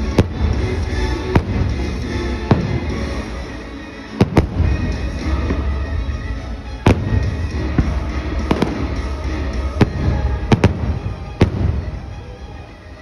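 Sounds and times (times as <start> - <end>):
music playing: 0.0 - 13.0.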